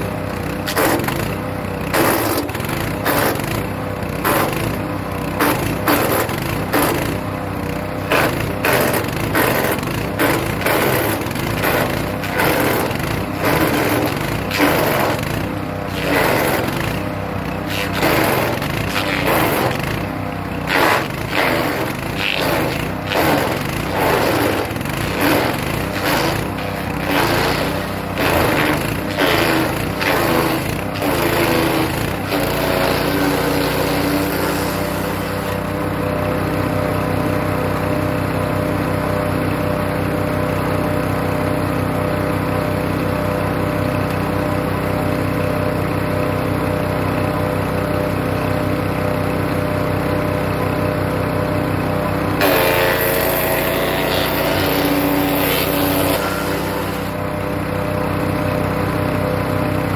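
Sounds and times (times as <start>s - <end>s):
wood chipper crunching branches: 0.0s - 59.9s
wood chipper engine running: 0.0s - 59.9s.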